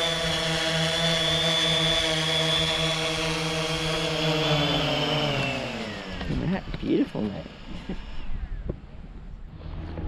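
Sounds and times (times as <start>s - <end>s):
drone propellers whining: 0.0s - 10.0s.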